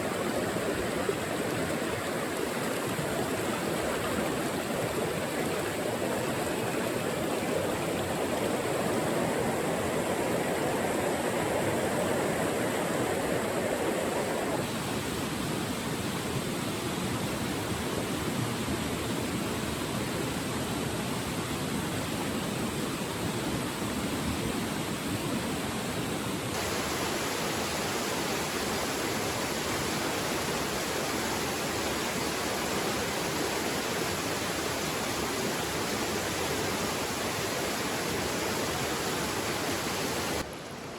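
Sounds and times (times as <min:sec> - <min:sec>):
mountain stream rushing: 0:00.0 - 0:40.9.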